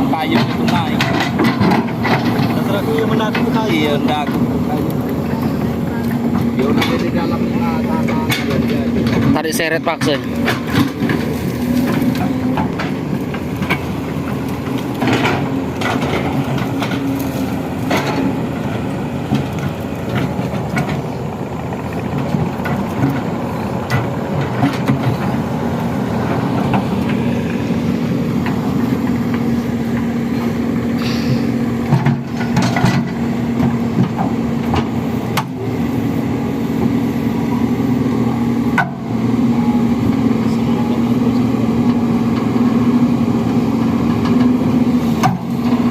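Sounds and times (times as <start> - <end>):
diesel engines under load: 0.0 - 45.9.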